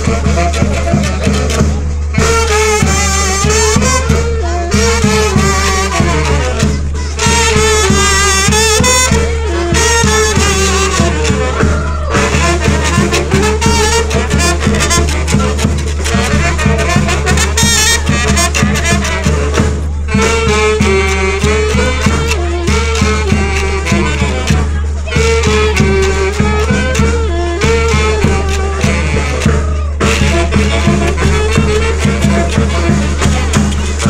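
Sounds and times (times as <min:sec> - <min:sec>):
brass melody: 0:00.0 - 0:34.0
drum beat: 0:00.0 - 0:34.0
live band dance tune: 0:00.0 - 0:34.0.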